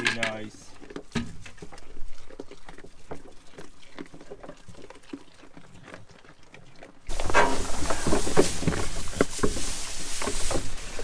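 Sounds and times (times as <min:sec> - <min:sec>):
goats rustling and crunching hay: 0:00.3 - 0:11.0.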